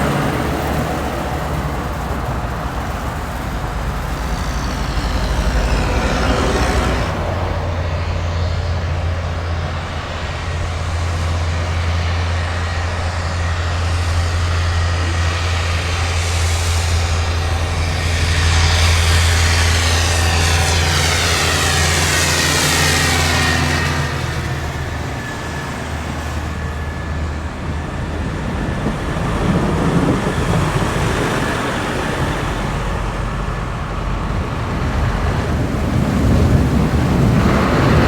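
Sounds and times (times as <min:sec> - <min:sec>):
low steady engine hum: 0:00.0 - 0:38.0
passing traffic and tyre noise: 0:00.0 - 0:38.0
truck diesel engine running: 0:00.0 - 0:38.0.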